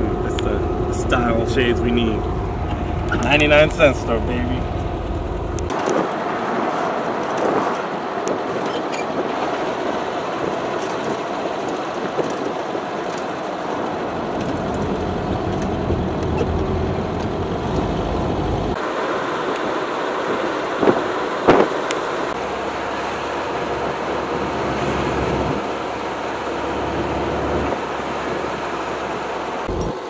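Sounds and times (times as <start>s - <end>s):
wind noise: 0.0s - 26.8s
dune buggy engine: 0.0s - 30.0s.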